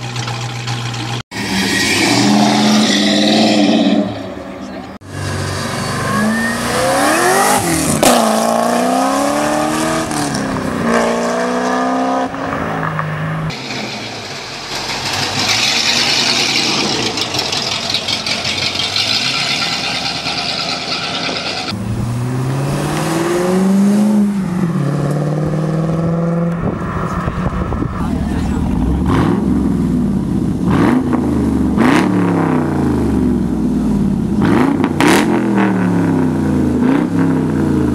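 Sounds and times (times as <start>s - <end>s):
car engines accelerating: 0.0s - 37.9s.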